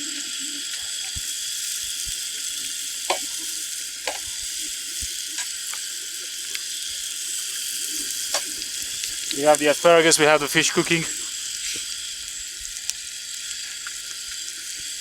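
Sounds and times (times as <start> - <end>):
fish sizzling in a pan: 0.0 - 15.0
sharp pops of frying: 0.7 - 15.0.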